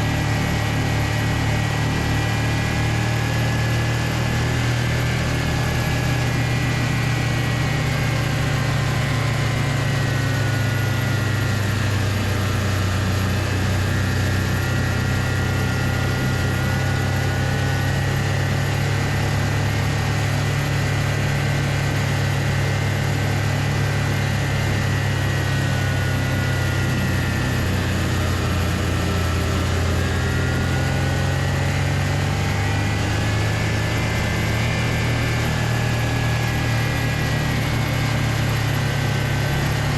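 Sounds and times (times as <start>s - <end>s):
snowmobile engine whining: 0.0s - 39.9s.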